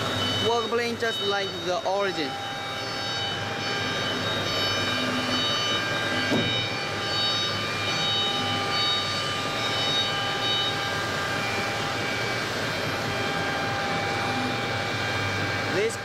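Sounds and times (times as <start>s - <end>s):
high whining motor tones: 0.0s - 16.0s
milling machine hum: 0.0s - 16.0s.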